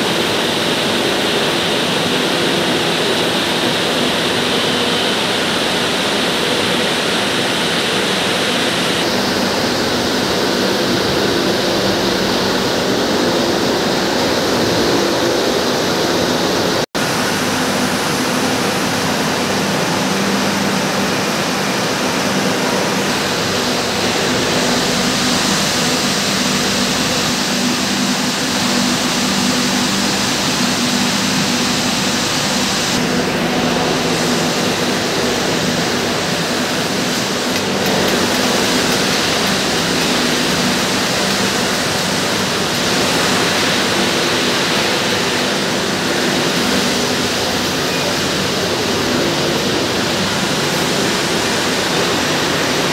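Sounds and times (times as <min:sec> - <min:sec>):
low machine hum: 0:00.0 - 0:52.9
spinning machinery whirring: 0:00.0 - 0:52.9.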